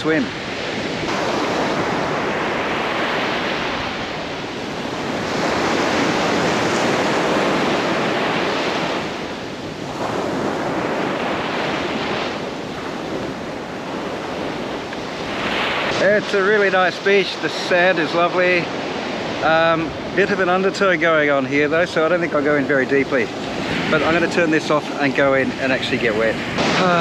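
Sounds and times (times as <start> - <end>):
surf breaking on beach: 0.0 - 27.0.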